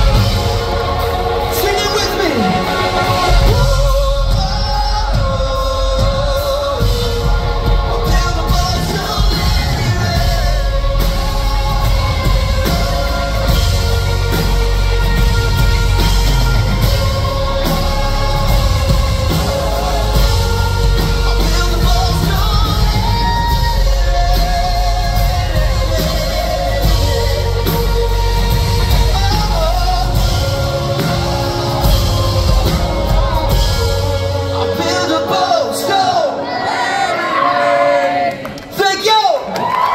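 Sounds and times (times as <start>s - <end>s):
man singing and shouting: 0.0s - 36.6s
live pop-rock band: 0.0s - 39.9s.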